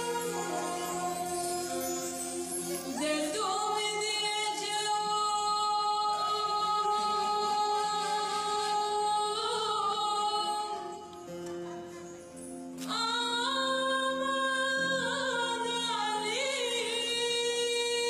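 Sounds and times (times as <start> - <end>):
woman singing: 0.0 - 11.4, 12.8 - 18.0.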